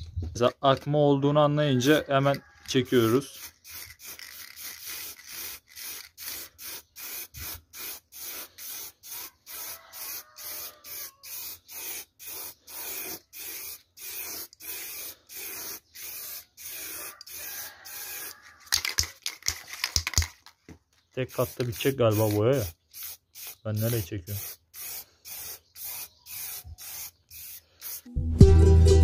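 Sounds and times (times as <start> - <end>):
spray paint can hissing bursts: 3.2 - 20.3, 21.4 - 28.1.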